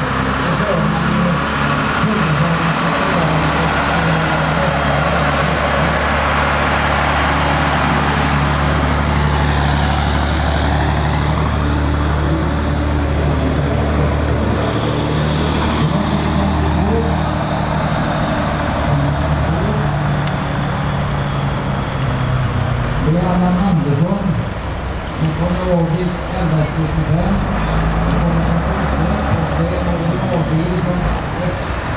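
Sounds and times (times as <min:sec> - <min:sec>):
diesel truck engines idling: 0:00.0 - 0:31.9.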